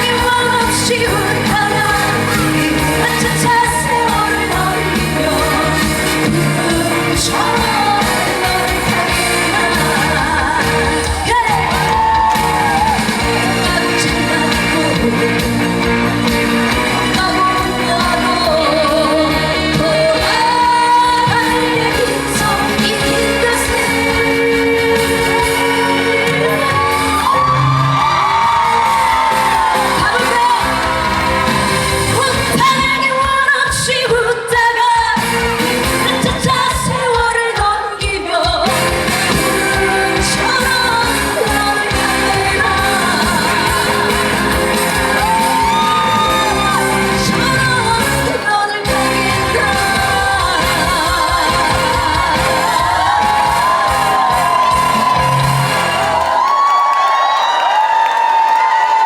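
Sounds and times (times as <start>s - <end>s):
woman singing: 0.0s - 55.8s
backing music: 0.0s - 59.0s.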